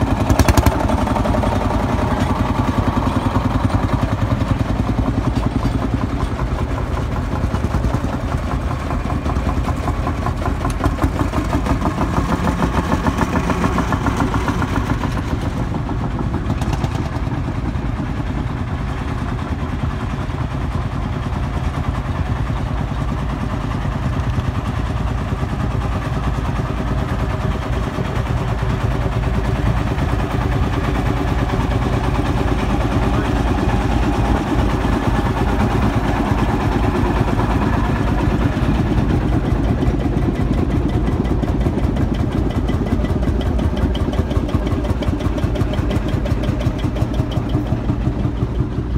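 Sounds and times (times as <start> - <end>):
tractor engines driving slowly by: 0.0 - 48.9.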